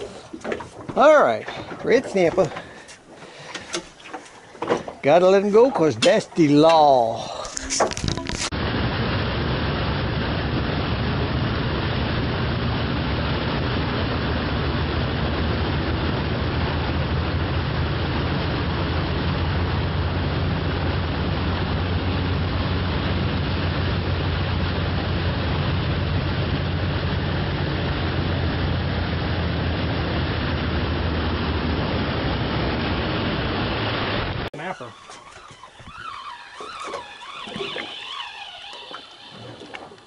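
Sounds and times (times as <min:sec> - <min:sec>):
outboard motors droning: 0:00.0 - 0:40.0
rush of wind and water: 0:00.0 - 0:40.0.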